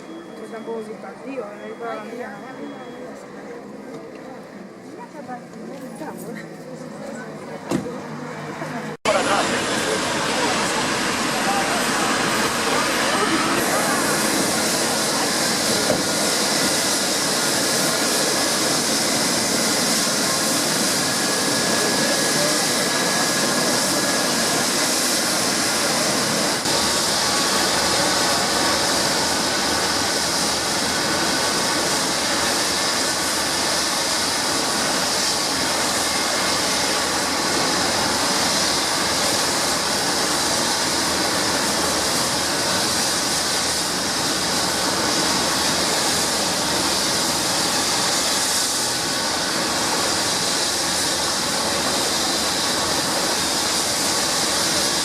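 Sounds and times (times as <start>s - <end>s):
helicopter rotor rush: 8.0s - 55.0s
high turbine whine: 9.1s - 55.0s.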